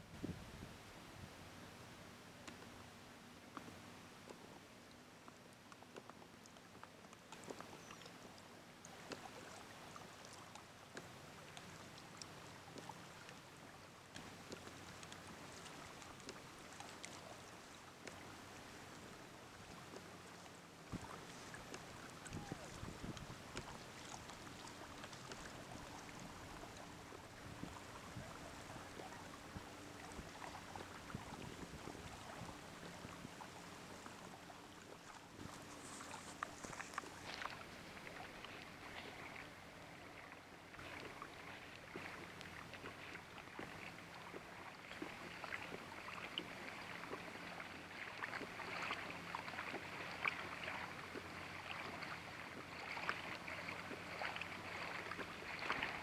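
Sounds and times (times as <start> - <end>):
water splashing around kayak: 0.0 - 56.0.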